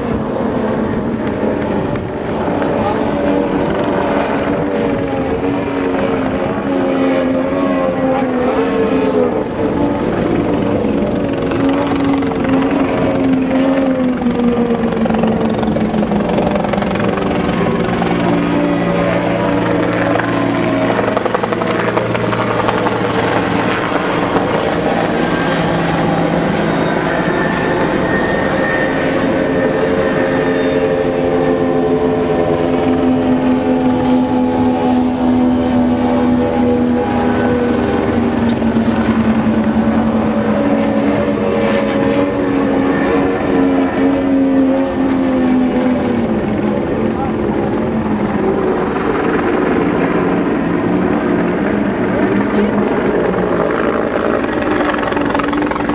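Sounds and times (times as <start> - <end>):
speedboat engines droning past: 0.0 - 55.9.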